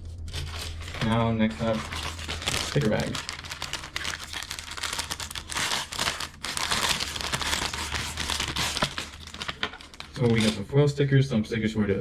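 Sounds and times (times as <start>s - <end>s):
plastic bag crinkling: 0.1s - 10.8s.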